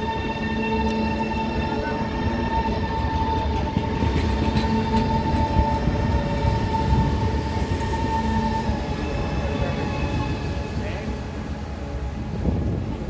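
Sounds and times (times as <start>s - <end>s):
train rolling rumble: 0.0s - 13.0s
train whine: 0.0s - 13.0s.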